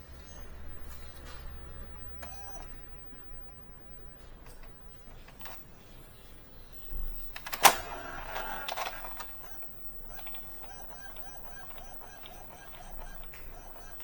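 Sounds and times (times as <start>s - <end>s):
printer whir: 0.0s - 14.0s
print head carriage ticking: 0.4s - 6.2s, 6.8s - 14.0s
printer click: 0.7s - 14.0s.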